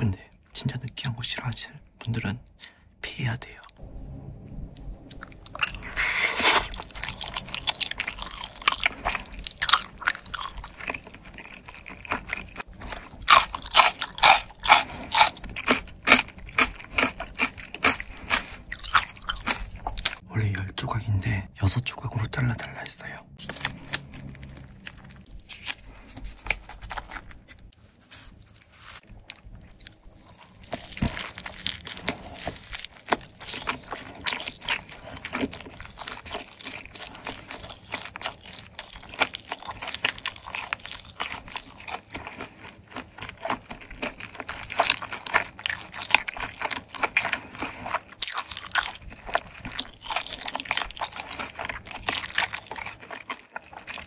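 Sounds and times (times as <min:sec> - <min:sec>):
crunchy chewing of pizza: 0:05.5 - 0:20.2, 0:23.0 - 0:54.0.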